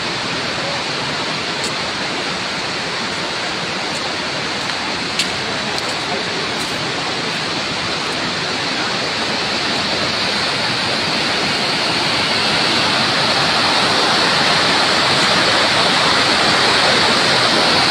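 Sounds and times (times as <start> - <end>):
fast river rushing: 0.0 - 17.9.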